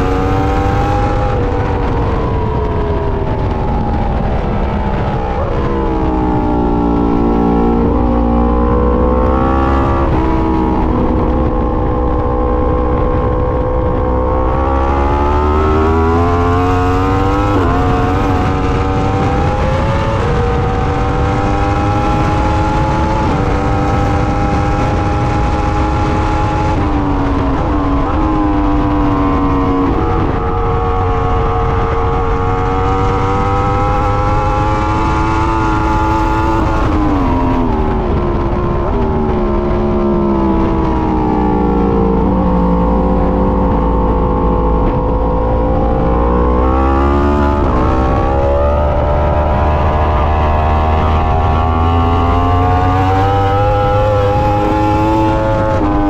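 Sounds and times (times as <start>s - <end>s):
motorcycle engine accelerating: 0.0s - 56.0s
wind rush: 0.0s - 56.0s.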